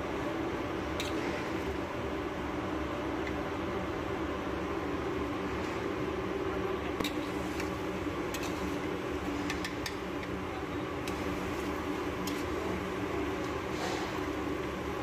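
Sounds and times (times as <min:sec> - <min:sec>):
kitchen hum: 0:00.0 - 0:15.0.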